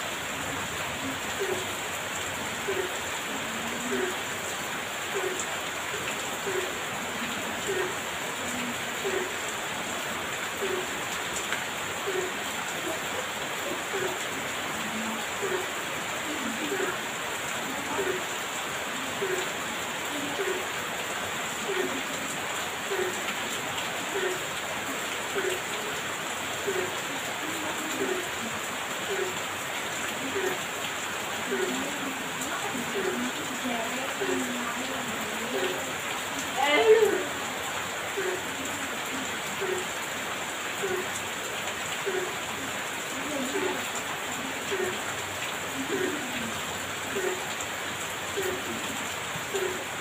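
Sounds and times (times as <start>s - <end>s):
heavy rain falling: 0.0s - 50.0s.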